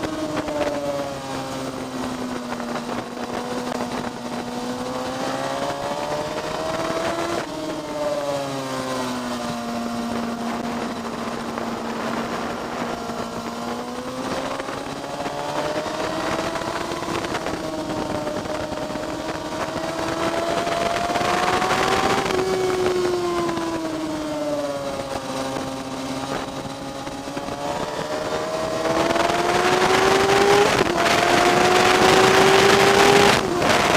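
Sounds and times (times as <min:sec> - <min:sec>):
motorcycle engine at speed: 0:00.0 - 0:33.9
wind rush: 0:00.0 - 0:33.9.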